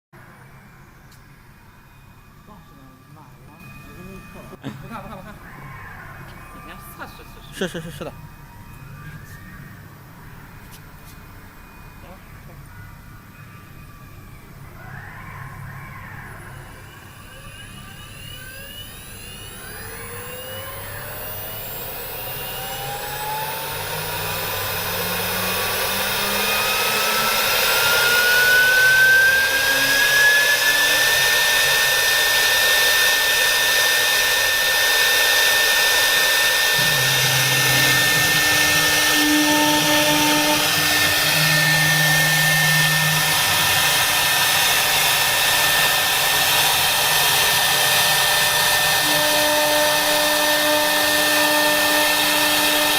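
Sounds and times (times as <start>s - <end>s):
router spindle whining: 1.0s - 52.9s.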